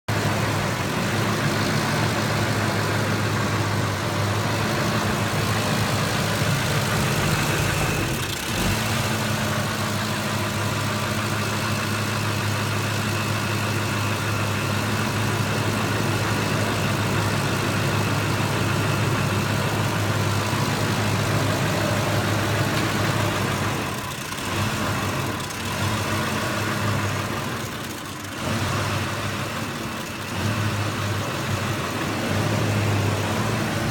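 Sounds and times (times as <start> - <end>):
truck engine idling roughly: 0.1 - 33.9.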